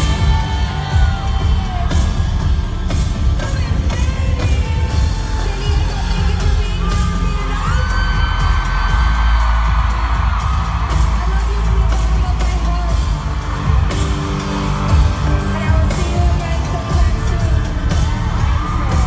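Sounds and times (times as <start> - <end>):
heavy bass beat: 0.0 - 19.0.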